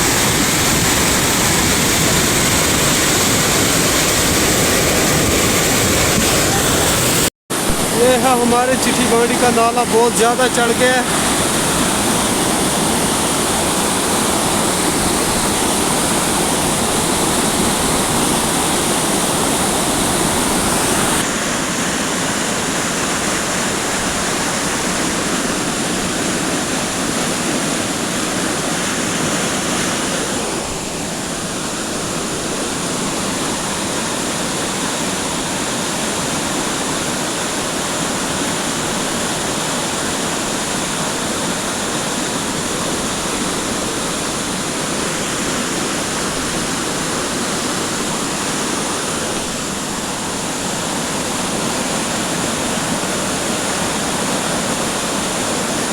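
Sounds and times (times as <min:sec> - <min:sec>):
mountain stream rushing: 0:00.0 - 0:55.9.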